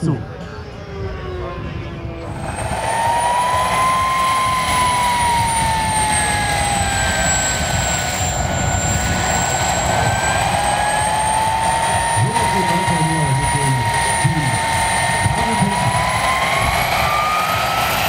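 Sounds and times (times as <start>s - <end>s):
model turbine engine whine: 0.0s - 18.0s.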